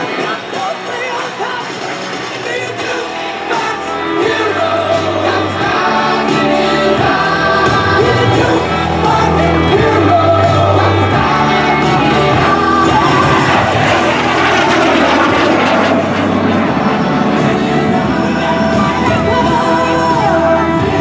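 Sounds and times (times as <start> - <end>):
jet engine passing by: 0.0 - 20.6
music over loudspeakers: 0.0 - 21.0.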